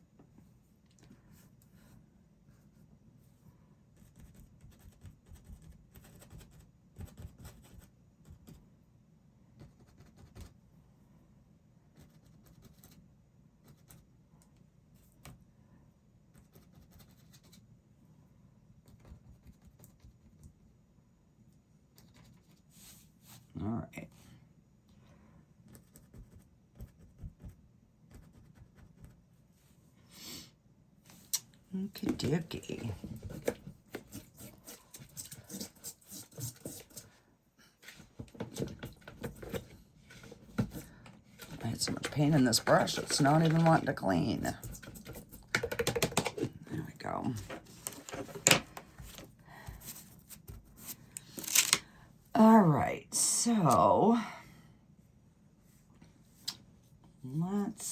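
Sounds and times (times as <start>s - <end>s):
low room hum: 0.0s - 57.9s.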